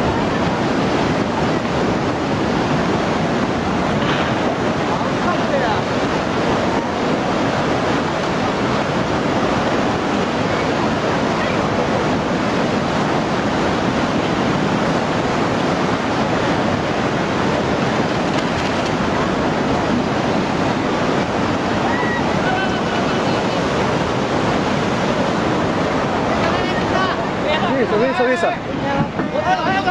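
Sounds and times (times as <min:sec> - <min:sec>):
floodwater rushing through street: 0:00.0 - 0:29.9.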